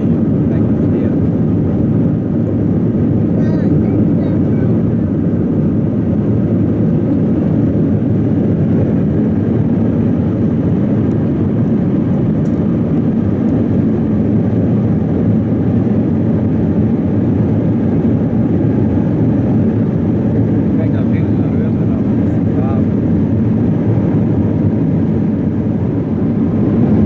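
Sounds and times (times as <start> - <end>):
jet engine and airflow rush: 0.0 - 27.0.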